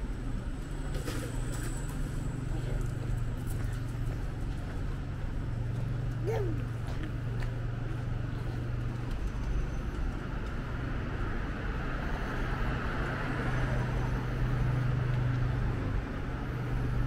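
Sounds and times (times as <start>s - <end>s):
engine hum: 0.0s - 17.0s
tyre and road noise: 0.0s - 17.0s.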